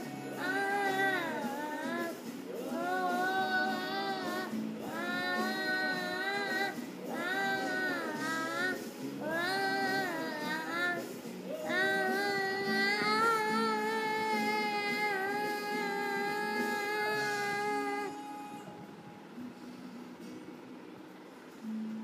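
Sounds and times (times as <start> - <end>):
boy singing: 0.0 - 18.4.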